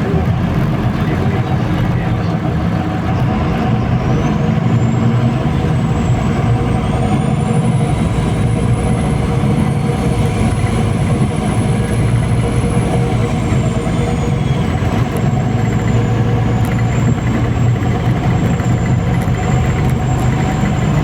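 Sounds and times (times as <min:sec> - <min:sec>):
bus diesel engine and road rumble: 0:00.0 - 0:21.0.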